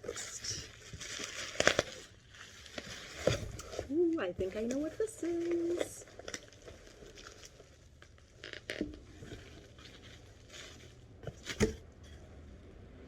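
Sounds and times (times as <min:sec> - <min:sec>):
paper and bags rustling: 0:00.1 - 0:11.7.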